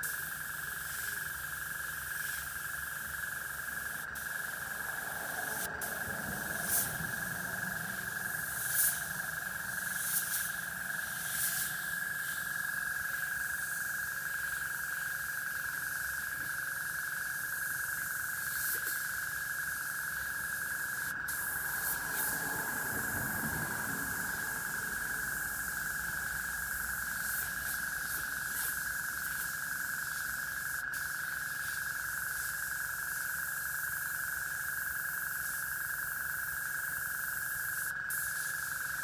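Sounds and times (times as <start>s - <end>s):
airbrush spraying hiss: 0.0s - 33.6s, 37.7s - 39.0s.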